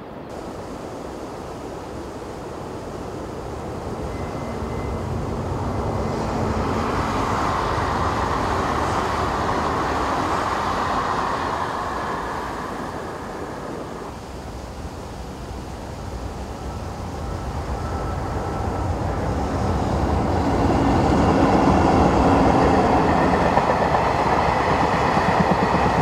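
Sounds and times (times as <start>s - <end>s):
electric train passing at speed: 0.0s - 26.0s.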